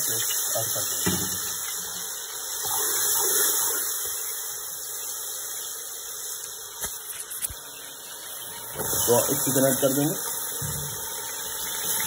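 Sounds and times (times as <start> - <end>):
garlic paste sizzling in oil: 0.0 - 12.0.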